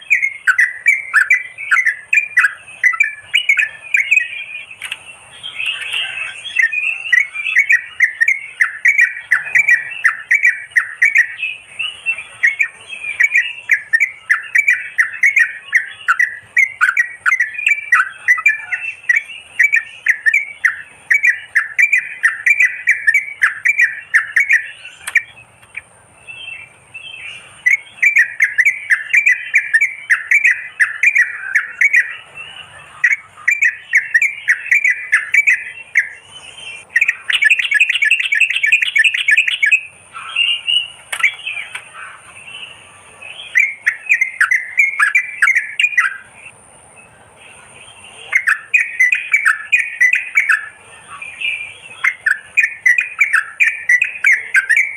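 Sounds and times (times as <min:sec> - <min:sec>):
bird bubbly chattering calls: 0:05.4 - 0:25.4, 0:27.2 - 0:42.4, 0:43.4 - 0:46.5, 0:48.3 - 0:54.9.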